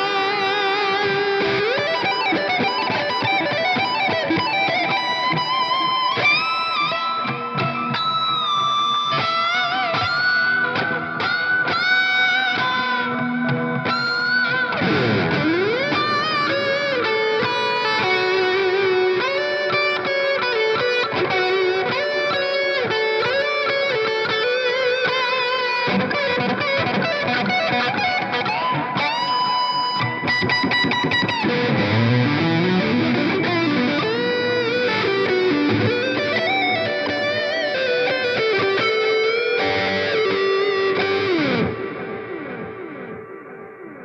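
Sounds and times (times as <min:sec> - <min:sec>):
electric guitar lead lines: 0:00.0 - 0:44.0.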